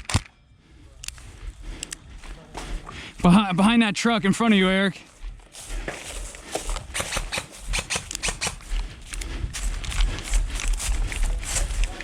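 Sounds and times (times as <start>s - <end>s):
footsteps: 0.6s - 12.0s.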